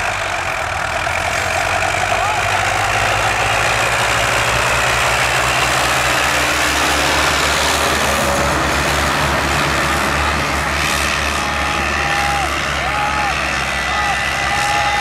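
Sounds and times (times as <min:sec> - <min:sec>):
tractor engines throbbing: 0:00.0 - 0:15.0.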